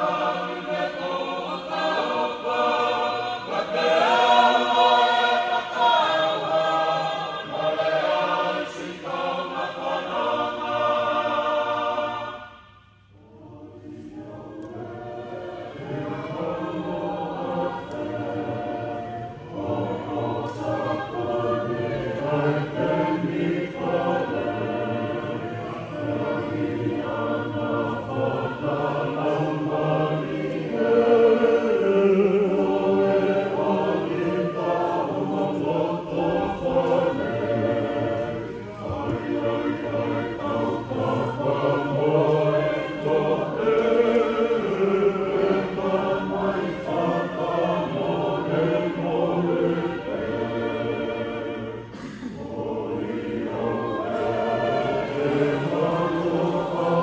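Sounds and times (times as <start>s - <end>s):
choir singing in parts: 0.0s - 57.0s.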